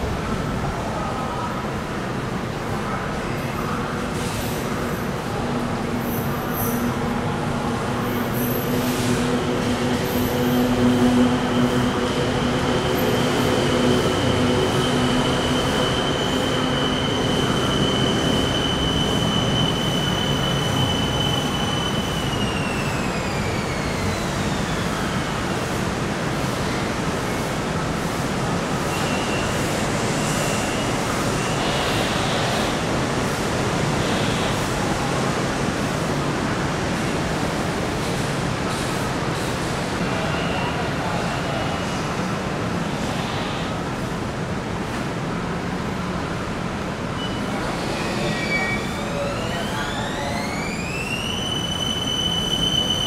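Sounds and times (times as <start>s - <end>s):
electric train rumbling on rails: 0.0s - 53.0s.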